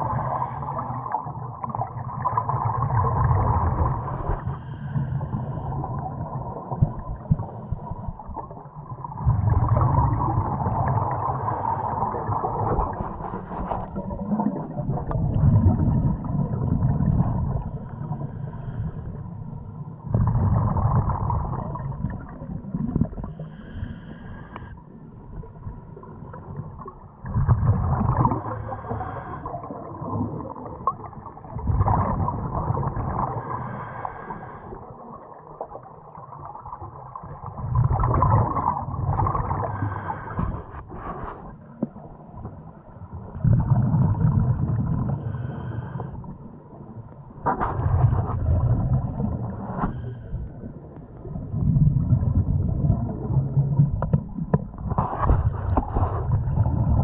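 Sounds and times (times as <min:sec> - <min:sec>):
muffled underwater rumbles: 0:00.0 - 0:24.7, 0:25.3 - 0:57.0
underwater bubbling: 0:00.0 - 0:57.0.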